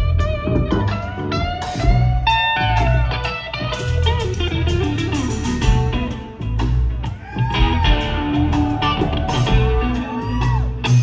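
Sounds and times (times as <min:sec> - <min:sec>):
bass guitar: 0:00.0 - 0:11.0
drums: 0:00.0 - 0:11.0
electric guitar solo: 0:00.0 - 0:11.0.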